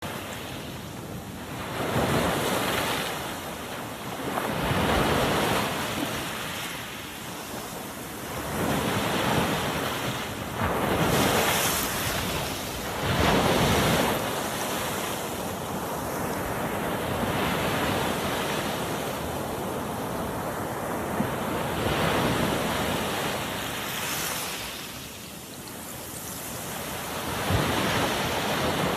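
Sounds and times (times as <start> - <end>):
sea waves breaking on shore: 0.0 - 28.9.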